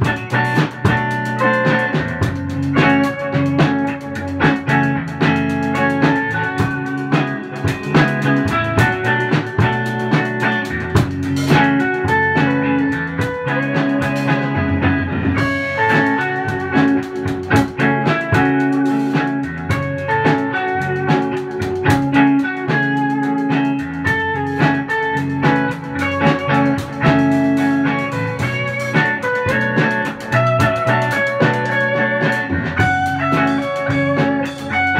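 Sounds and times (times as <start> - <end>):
drum hits: 0.0 - 34.9
sustained electric guitar notes: 0.0 - 34.9.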